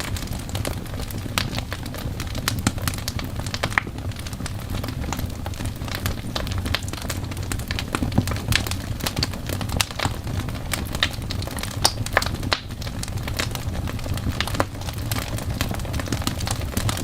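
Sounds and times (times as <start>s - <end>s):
fireplace crackling: 0.0s - 17.0s
low rumble of burning: 0.0s - 17.0s.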